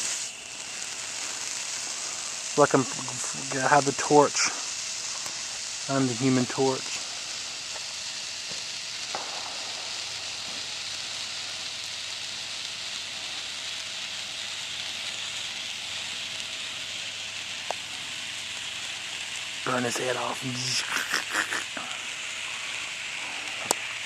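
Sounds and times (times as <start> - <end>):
handheld firework hissing: 0.0 - 24.0.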